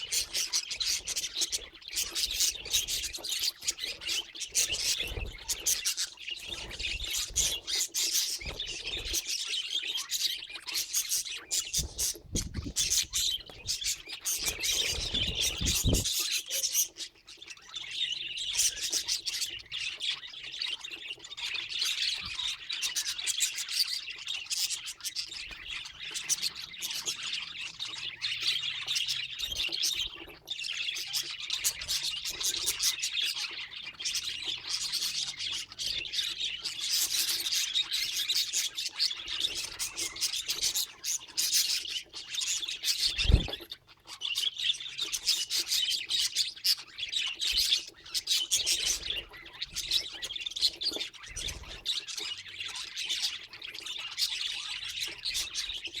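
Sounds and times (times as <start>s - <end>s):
budgies chattering: 0.0s - 56.0s.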